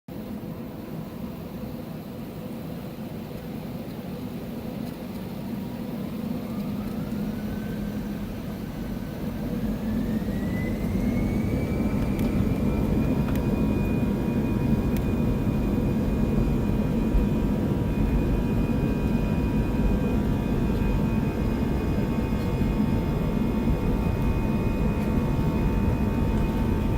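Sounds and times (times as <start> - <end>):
jet engine rumble: 0.1 - 26.9
jet engine whine: 0.1 - 26.9.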